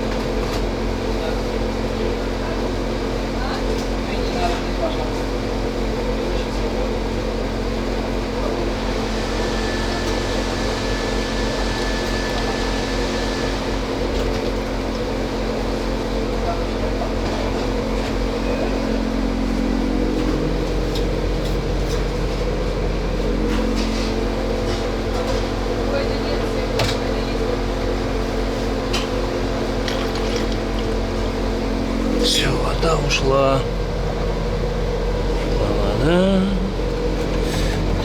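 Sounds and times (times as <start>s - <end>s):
electric machinery humming: 7.1s - 38.0s.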